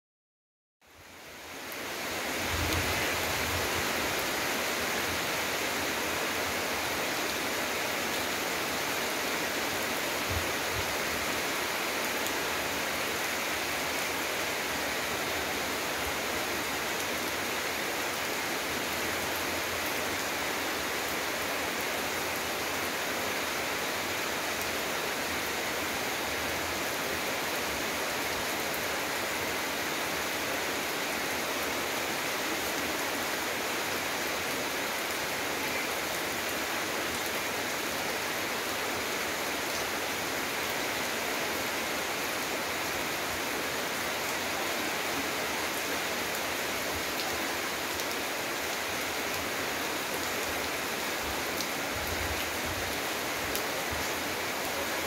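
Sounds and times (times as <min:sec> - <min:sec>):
steady rain: 0:00.8 - 0:55.0.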